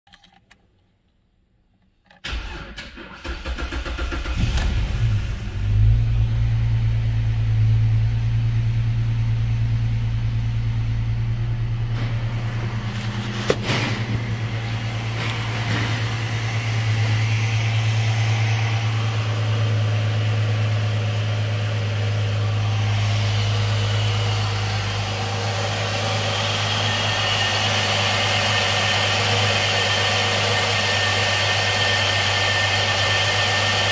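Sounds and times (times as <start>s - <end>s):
car engine starting and idling: 2.2s - 33.9s.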